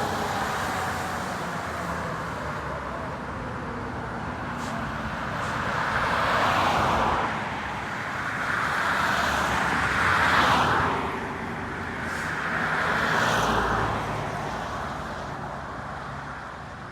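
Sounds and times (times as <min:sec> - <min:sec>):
vehicles driving past: 0:00.0 - 0:16.9.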